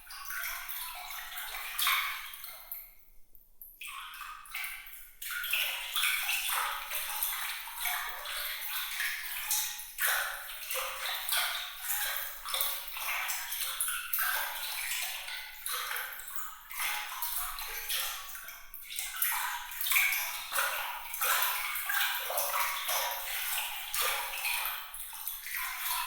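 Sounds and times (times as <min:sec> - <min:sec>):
water trickling and splashing: 0:00.0 - 0:03.0, 0:03.6 - 0:26.0.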